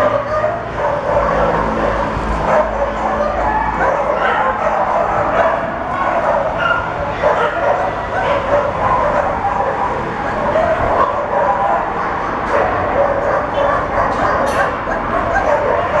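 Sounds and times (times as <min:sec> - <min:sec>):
dog barking: 0:00.0 - 0:16.0.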